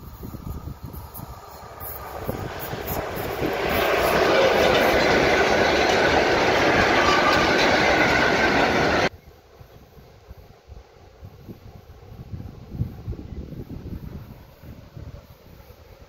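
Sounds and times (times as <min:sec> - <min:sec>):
freight train passing: 0:00.0 - 0:16.0.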